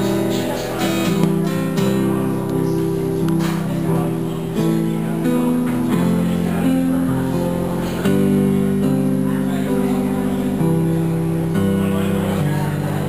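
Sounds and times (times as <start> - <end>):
acoustic guitar: 0.0 - 13.0
keyboard playing chords: 0.0 - 13.0.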